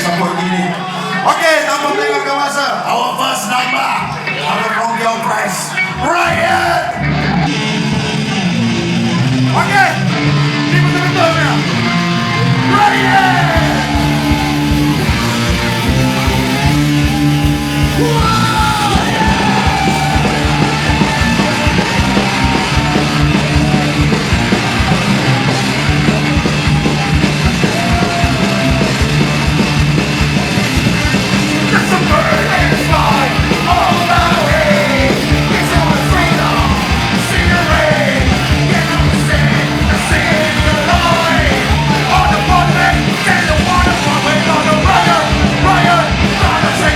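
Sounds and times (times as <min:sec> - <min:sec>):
electric guitars: 0:05.5 - 0:46.9
fast drums: 0:07.6 - 0:46.9.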